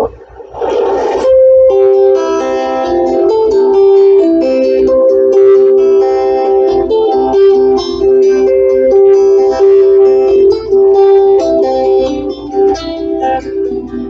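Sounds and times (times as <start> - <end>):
slow guitar melody: 0.0 - 14.0.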